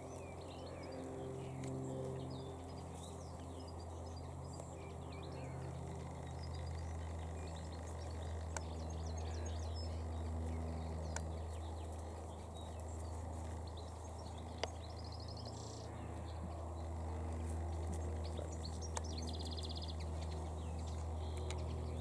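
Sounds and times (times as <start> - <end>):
small birds chirping and trilling: 0.0 - 22.0
steady low hum: 0.0 - 22.0.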